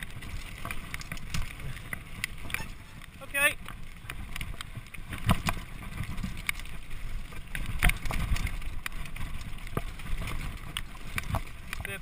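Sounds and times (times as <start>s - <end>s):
bike rattling over bumps: 0.0s - 12.0s
wind on microphone: 0.0s - 12.0s.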